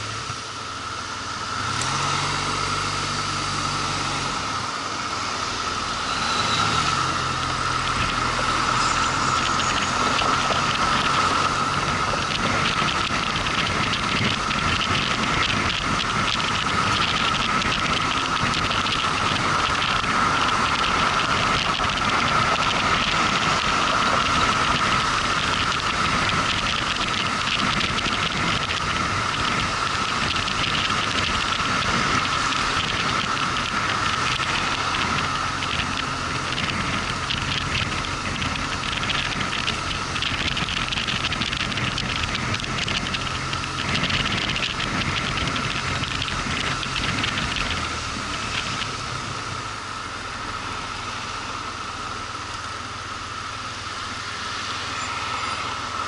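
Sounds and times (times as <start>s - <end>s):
motorcycle engine hum: 0.0s - 56.0s
wind and road rush: 0.0s - 56.0s.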